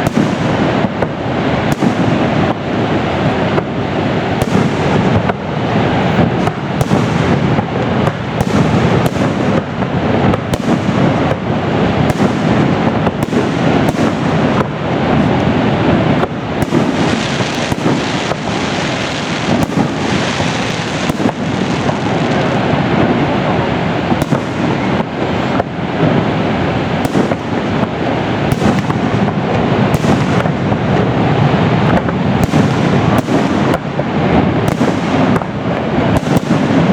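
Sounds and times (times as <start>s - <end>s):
fireworks booming: 0.0s - 36.9s
fireworks cracks and pops: 0.0s - 36.9s.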